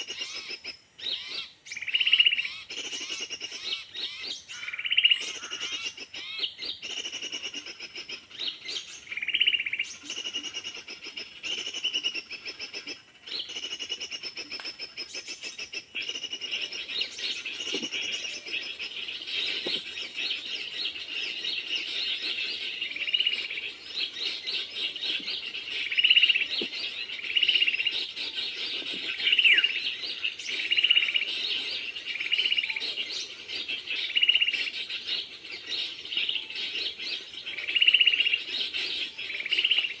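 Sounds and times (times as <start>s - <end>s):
small birds chorus: 0.0s - 40.0s.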